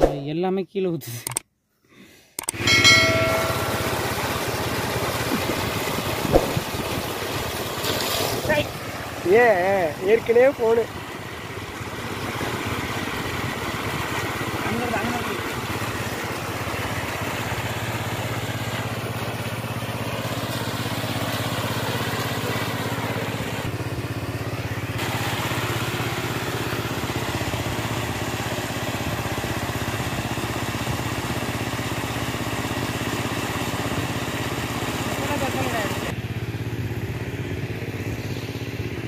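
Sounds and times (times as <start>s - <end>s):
pump motor drone: 2.4s - 39.0s
water gushing from pipe: 2.7s - 36.2s.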